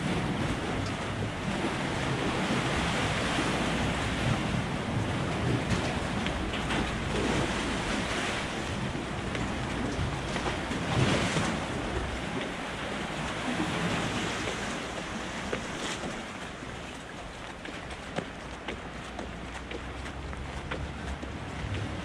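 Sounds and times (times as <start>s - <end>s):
waves washing: 0.0s - 22.0s
wind buffeting microphone: 0.0s - 22.0s.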